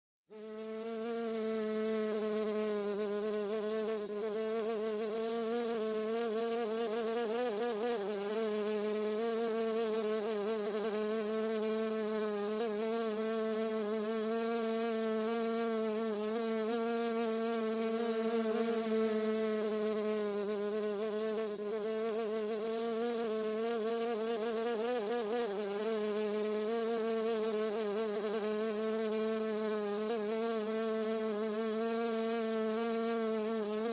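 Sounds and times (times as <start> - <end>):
bee buzzing in flight: 0.3 - 33.9.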